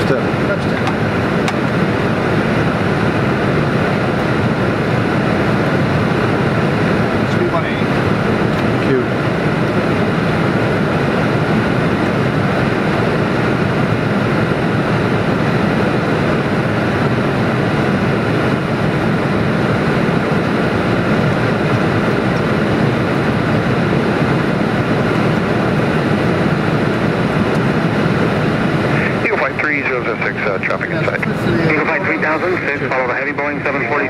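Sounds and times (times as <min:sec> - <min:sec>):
airplane cockpit rushing noise: 0:00.0 - 0:34.0.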